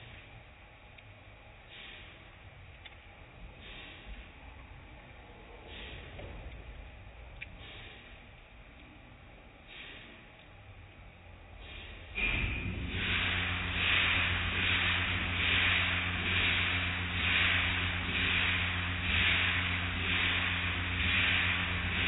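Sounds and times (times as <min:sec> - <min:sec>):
car wash motor hum: 0:00.0 - 0:22.0.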